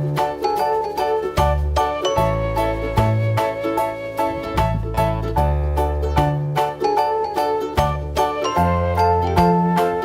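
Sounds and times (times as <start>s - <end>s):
light bouncy instrumental music: 0.0s - 10.0s.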